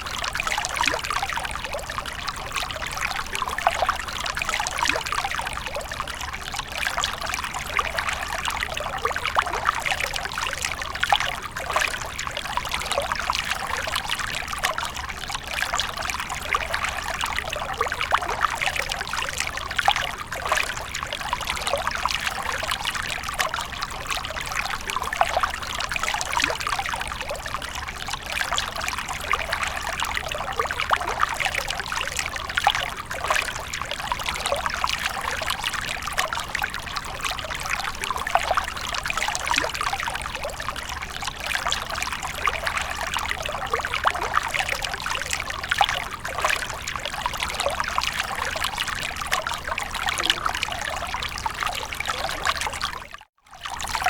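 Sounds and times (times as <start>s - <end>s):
fountain water splashing: 0.0s - 53.0s.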